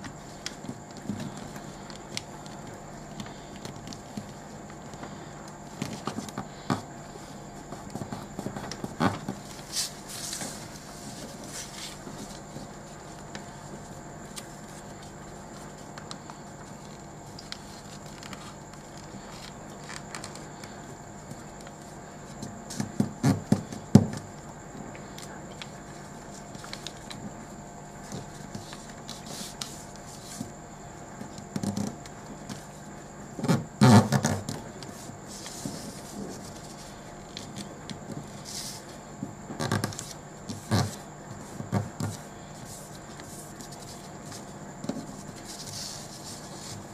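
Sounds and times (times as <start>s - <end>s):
paper folding and rustling: 0.0s - 23.8s, 25.0s - 30.5s, 33.4s - 46.9s
faint hum and hiss: 0.0s - 46.9s.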